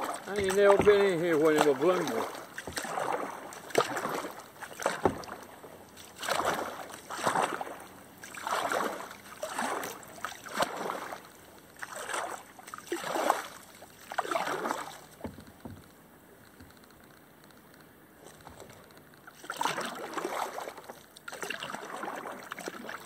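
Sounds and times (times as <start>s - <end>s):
paddle splashing in water: 0.0s - 16.8s, 18.1s - 23.0s.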